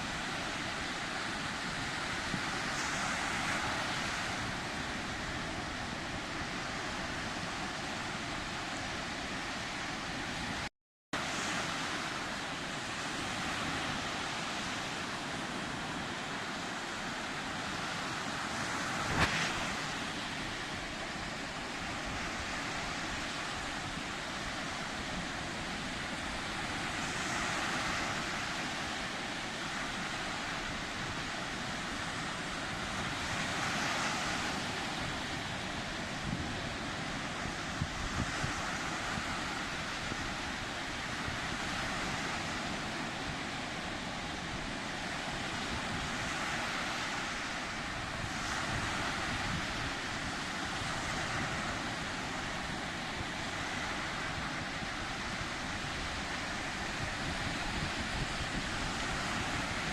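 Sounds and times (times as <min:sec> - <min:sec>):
sea waves washing ashore: 0:00.0 - 0:59.9.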